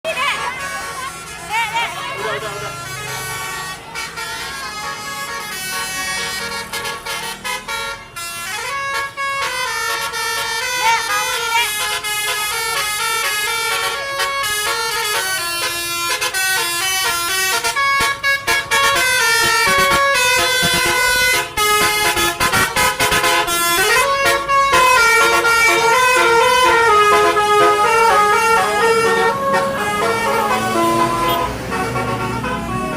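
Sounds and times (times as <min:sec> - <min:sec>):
multi-tone bus horn playing a tune: 0:00.1 - 0:32.9.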